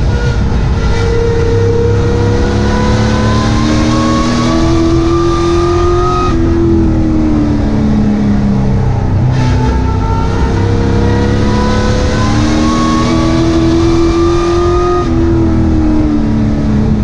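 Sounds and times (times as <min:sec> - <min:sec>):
constant low rumble: 0:00.0 - 0:17.0
race engine revving: 0:00.0 - 0:17.0.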